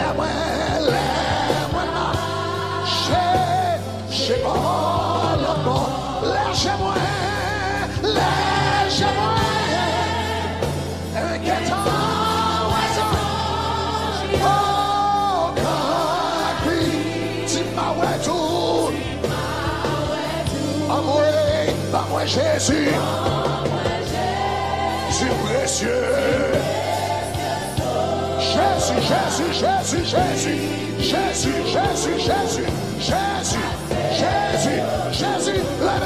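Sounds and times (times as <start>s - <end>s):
man singing gospel song: 0.0s - 23.5s, 25.0s - 27.1s, 27.7s - 36.0s
live musical accompaniment: 0.0s - 36.0s.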